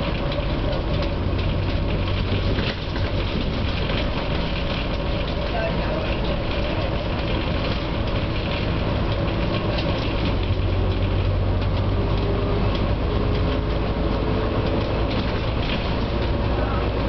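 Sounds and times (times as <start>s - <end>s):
bus diesel engine drone: 0.0s - 17.0s
road noise: 0.0s - 17.0s.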